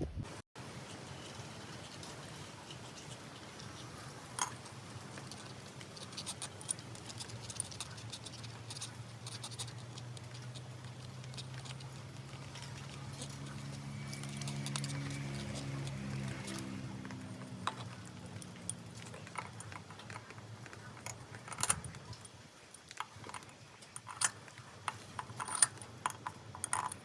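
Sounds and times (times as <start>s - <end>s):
light clicks and scrapes: 0.8s - 27.0s.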